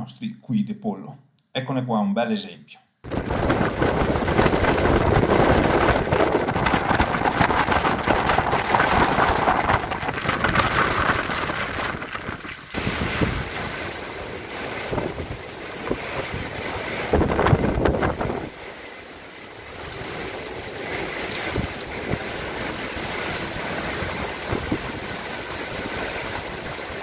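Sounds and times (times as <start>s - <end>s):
gusting wind on microphone: 3.0s - 27.0s
rain on choppy water: 3.1s - 27.0s.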